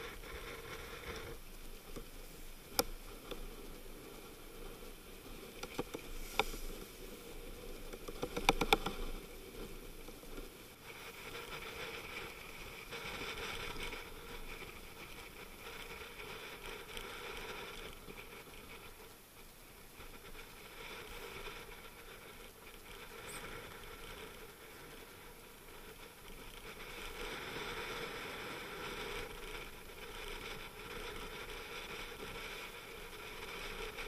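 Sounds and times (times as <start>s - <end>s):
wind: 0.0s - 34.0s.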